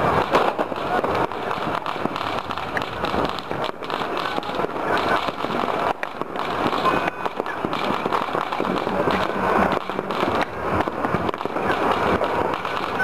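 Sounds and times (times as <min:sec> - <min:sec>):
firecrackers crackling and popping: 0:00.0 - 0:13.0.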